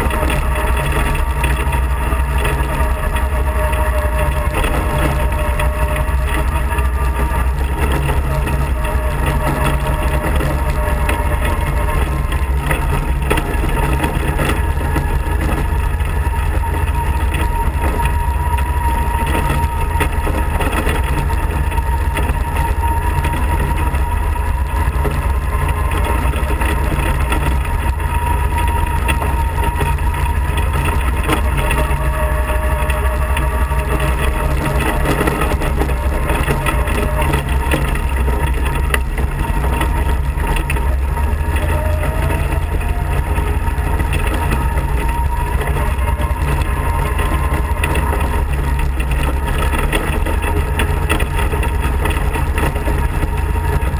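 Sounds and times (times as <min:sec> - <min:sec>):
kart engine running with whine: 0:00.0 - 0:53.9
tyres rolling on wet gravel: 0:00.0 - 0:53.9.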